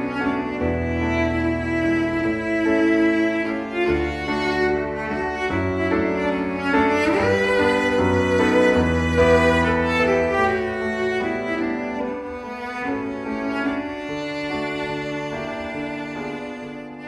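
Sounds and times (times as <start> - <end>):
slow bowed strings: 0.0 - 17.0.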